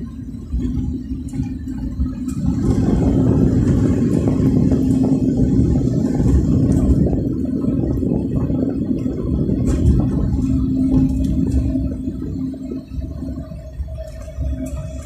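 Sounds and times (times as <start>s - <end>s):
car engine hum: 0.0s - 15.0s
tyre and road noise: 0.0s - 15.0s.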